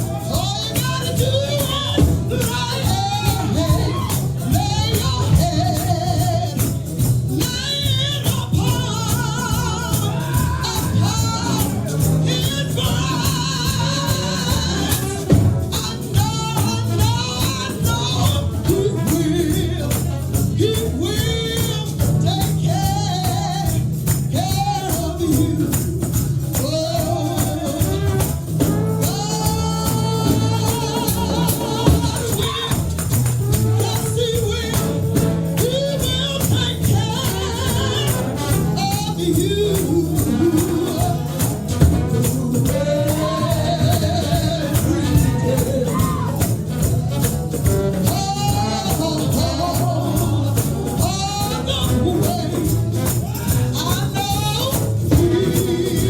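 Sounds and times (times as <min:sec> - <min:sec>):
gospel singing over a band: 0:00.0 - 0:56.0
tambourine shaking: 0:00.0 - 0:56.0.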